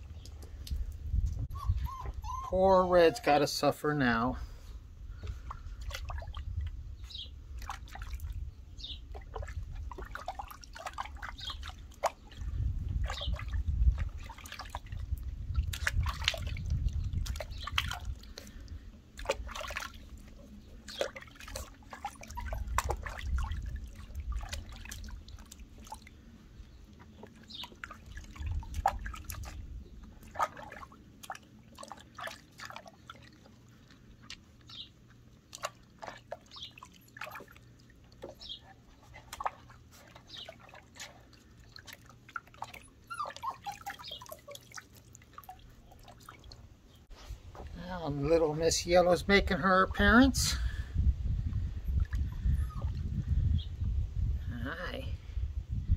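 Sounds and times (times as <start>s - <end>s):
water splashing in a plastic tub: 5.1s - 50.6s, 51.3s - 53.2s.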